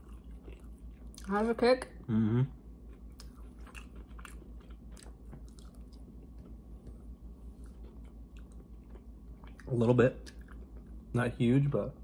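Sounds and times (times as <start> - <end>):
chewing crunchy fried food: 0.0 - 1.5, 2.6 - 11.5.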